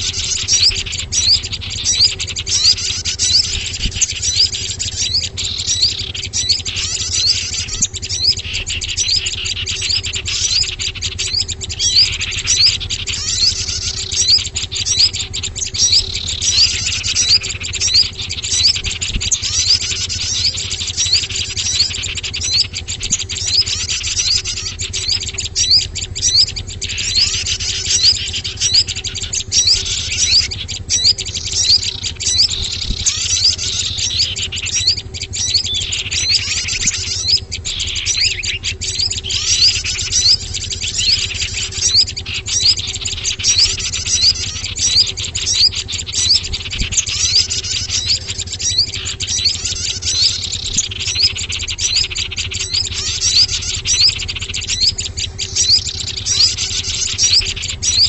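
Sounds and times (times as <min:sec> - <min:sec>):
faint steady hum: 0:00.0 - 0:58.0
small songbirds chirping: 0:00.0 - 0:58.0.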